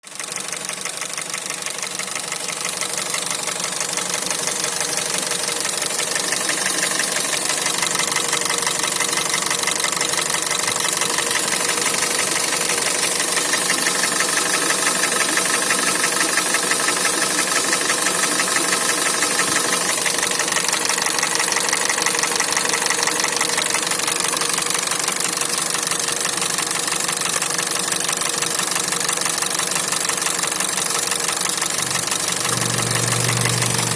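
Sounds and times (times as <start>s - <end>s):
engine running with rapid knock: 0.0s - 33.9s.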